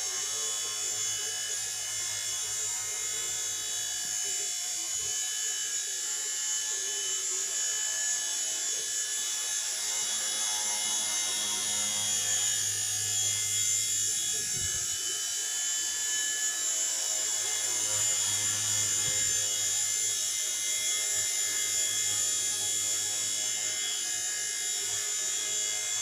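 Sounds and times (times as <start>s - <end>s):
rc helicopter rotor whine: 0.0s - 26.0s.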